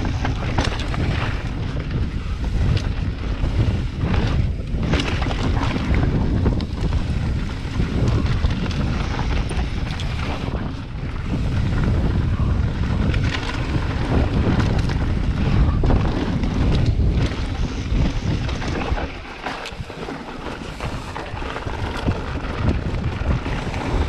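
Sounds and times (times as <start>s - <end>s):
bike clicks and rattles: 0.0s - 24.0s
tyres rumbling on dirt: 0.0s - 24.0s
wind buffeting microphone: 0.0s - 24.0s.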